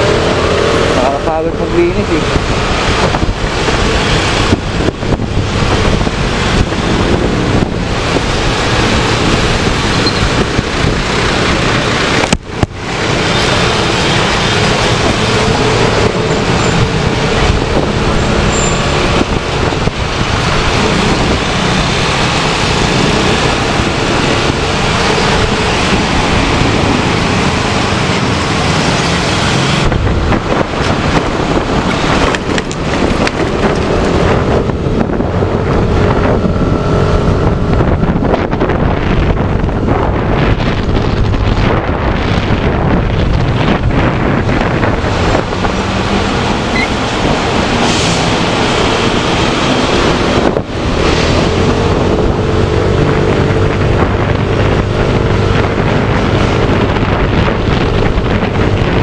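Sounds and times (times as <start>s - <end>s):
road noise: 0.0s - 59.0s
wind rushing: 0.0s - 59.0s.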